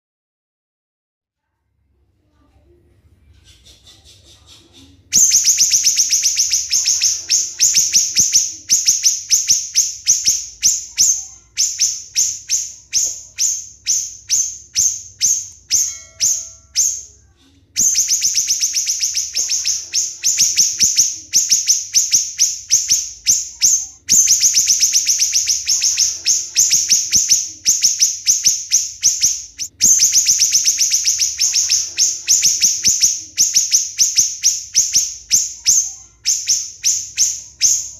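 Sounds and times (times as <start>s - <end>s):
songbird singing sharp notes: 4.5s - 17.2s, 17.8s - 37.9s.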